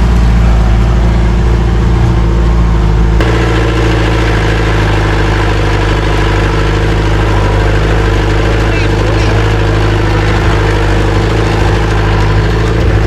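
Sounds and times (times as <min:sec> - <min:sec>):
off-road vehicle engine pulling: 0:00.0 - 0:13.0.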